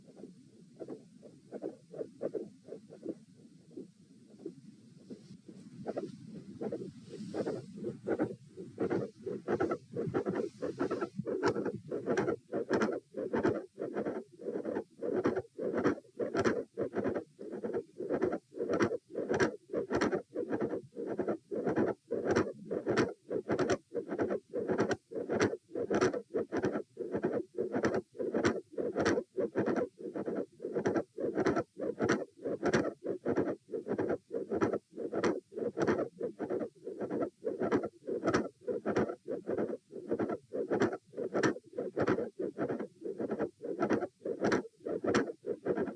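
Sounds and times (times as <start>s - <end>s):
heartbeat through a stethoscope: 0.0s - 45.9s.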